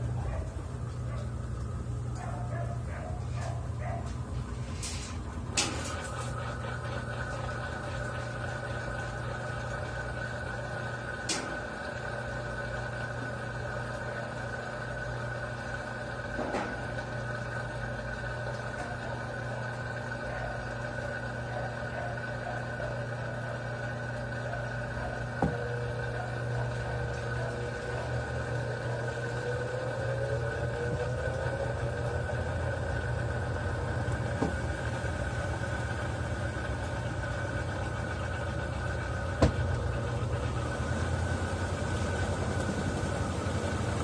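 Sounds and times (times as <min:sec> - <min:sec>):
washing machine motor hum: 0:00.0 - 0:44.0.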